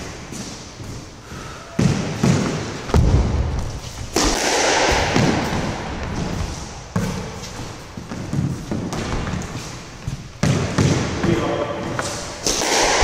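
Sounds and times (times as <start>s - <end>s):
squash ball hitting racquets and walls: 0.0s - 13.0s.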